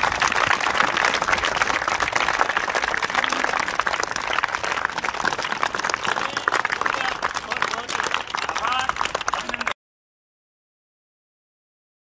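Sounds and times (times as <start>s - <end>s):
children applauding: 0.0s - 9.8s.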